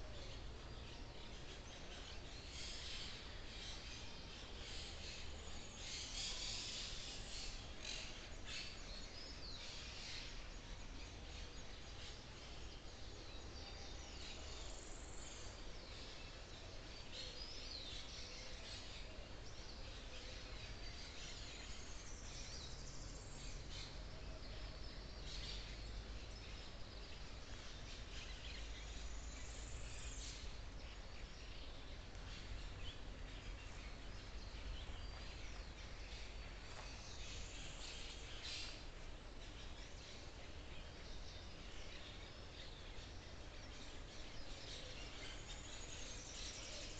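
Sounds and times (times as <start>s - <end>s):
soft even hiss: 0.0s - 46.9s.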